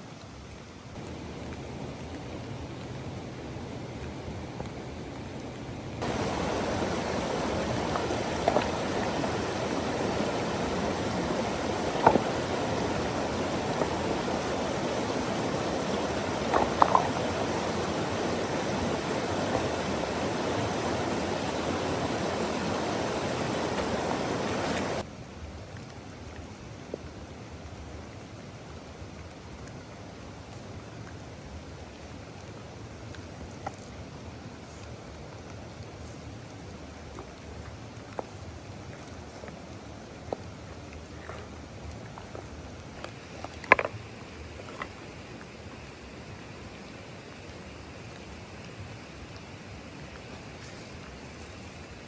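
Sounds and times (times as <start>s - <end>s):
quiet ambience: 0.0s - 52.0s
rushing water: 0.0s - 52.0s.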